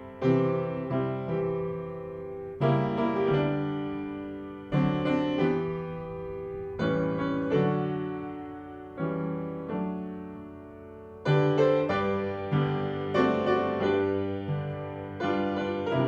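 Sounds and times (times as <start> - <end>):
solo piano playing hymn: 0.0 - 16.0.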